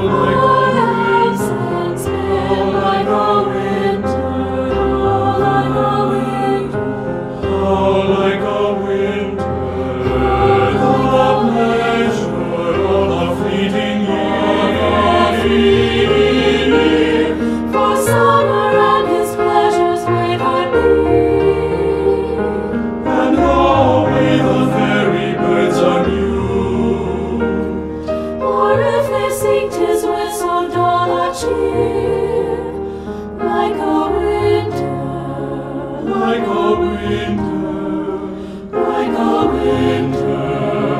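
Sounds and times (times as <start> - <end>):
choir singing: 0.0 - 40.9
piano accompaniment: 0.0 - 40.9.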